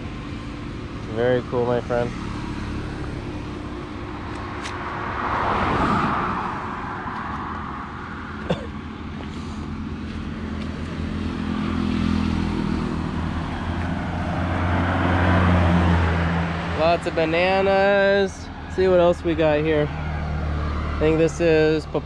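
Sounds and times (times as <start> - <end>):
low engine hum: 0.0 - 22.0
vehicle passing: 1.1 - 22.0.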